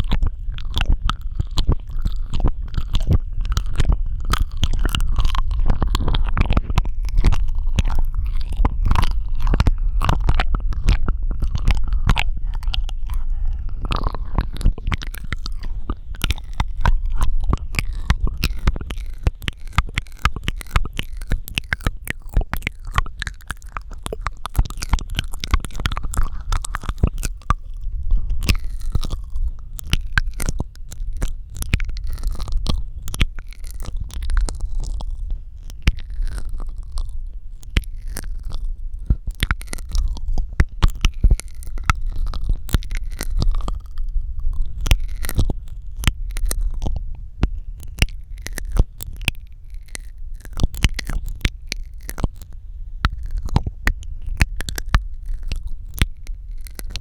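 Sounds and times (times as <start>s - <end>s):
low steady rumble: 0.0s - 57.0s
wet mouth clicks and smacks: 0.0s - 57.0s.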